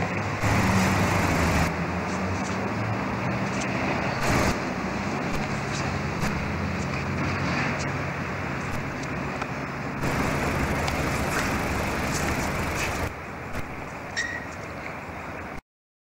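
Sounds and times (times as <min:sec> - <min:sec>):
road traffic with engine hum: 0:00.0 - 0:15.6.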